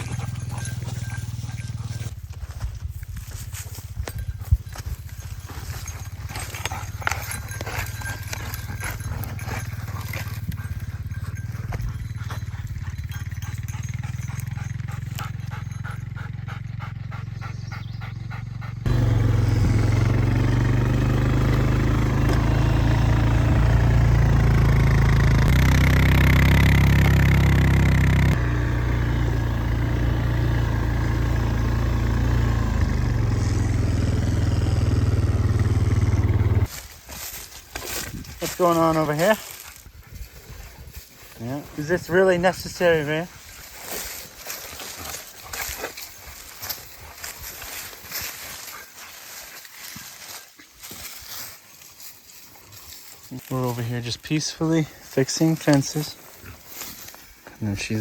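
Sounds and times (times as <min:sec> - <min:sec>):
engine humming: 0:00.0 - 0:51.4.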